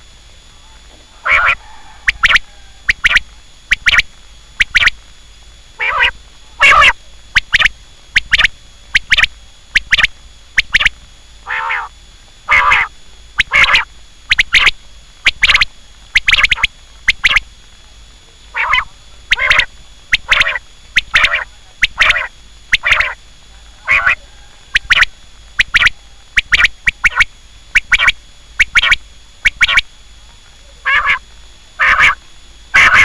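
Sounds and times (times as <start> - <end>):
quail calling: 1.2 - 5.0, 5.8 - 11.9, 12.5 - 17.4, 18.5 - 29.8, 30.8 - 31.2, 31.8 - 33.0.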